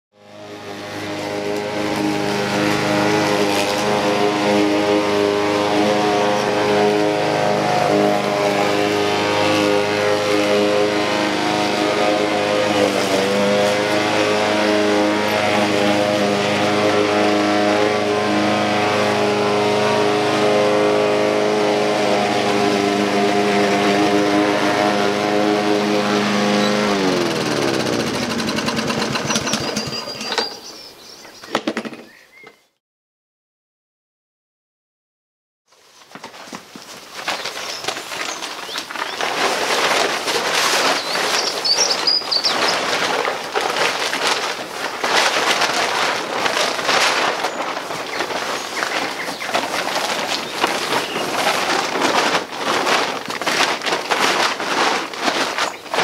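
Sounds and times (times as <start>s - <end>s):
lawn mower engine running: 0.2s - 30.8s, 37.8s - 56.0s.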